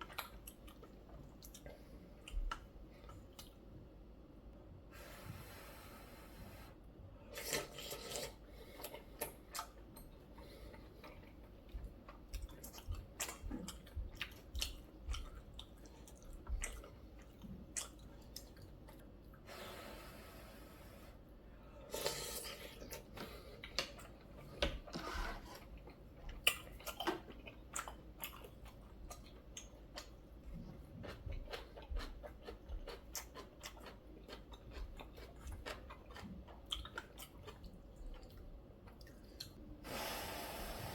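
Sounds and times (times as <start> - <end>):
man chewing noodle soup: 0.0 - 4.3, 7.3 - 19.5, 21.8 - 39.7.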